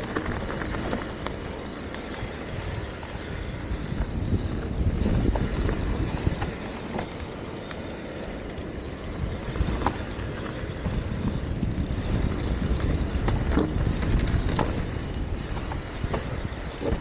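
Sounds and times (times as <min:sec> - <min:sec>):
bike clicks and rattles: 0:00.0 - 0:17.0
tyres rolling over loose gravel: 0:00.0 - 0:17.0
wind rumbling on microphone: 0:00.0 - 0:17.0.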